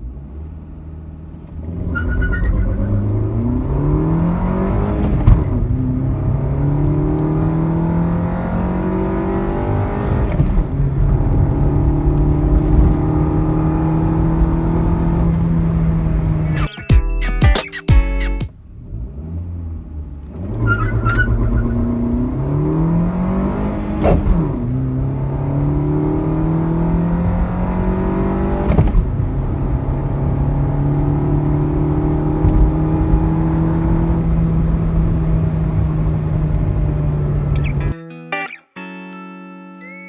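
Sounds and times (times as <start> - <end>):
car engine accelerating hard: 0.0 - 16.7, 18.5 - 38.0.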